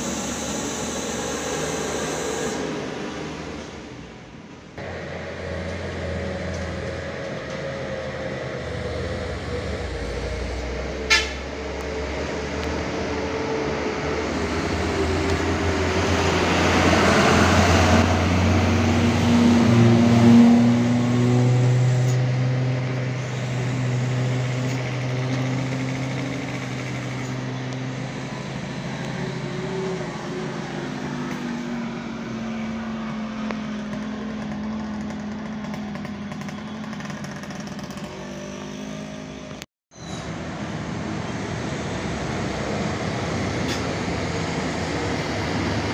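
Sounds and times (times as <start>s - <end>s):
diesel truck engines passing: 0.0s - 45.9s.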